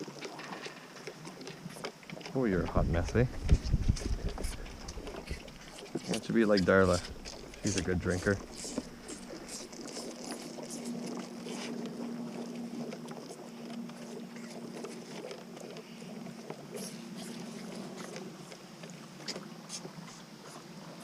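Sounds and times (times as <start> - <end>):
calf sucking and slurping: 0.0 - 21.0
steady low hum: 0.0 - 21.0.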